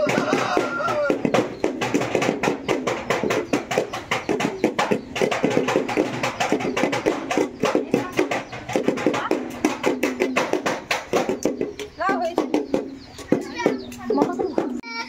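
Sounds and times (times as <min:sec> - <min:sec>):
hand drum fast rhythm: 0:00.0 - 0:15.0.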